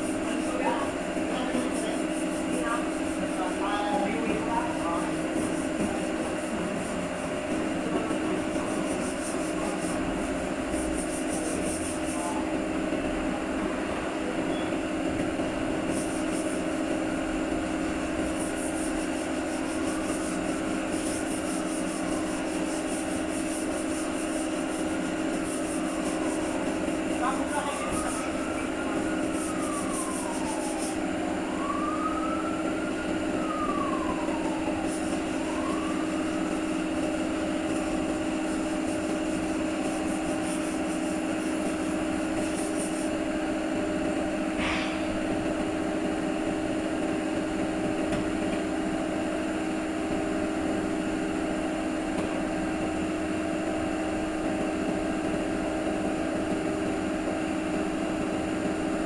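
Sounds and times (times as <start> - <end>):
machine droning: 0.0 - 47.7.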